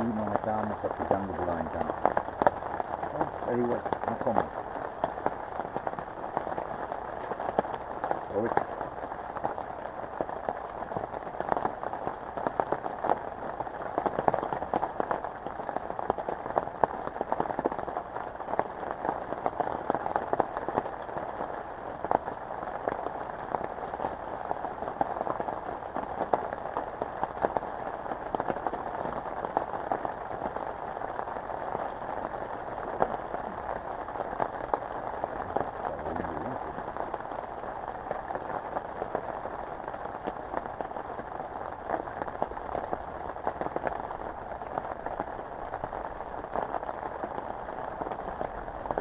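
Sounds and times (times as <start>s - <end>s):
heavy rain on a tent: 0.0s - 49.0s.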